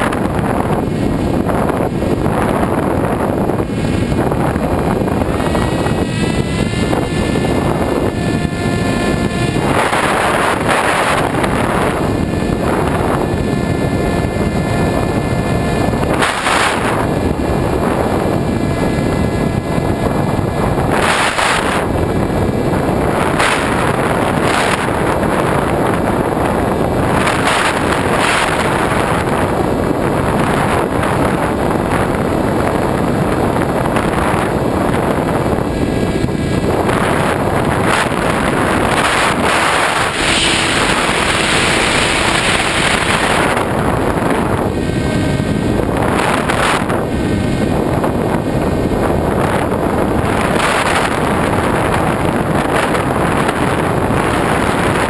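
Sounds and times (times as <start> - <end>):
wind rushing over camera: 0.0 - 55.0.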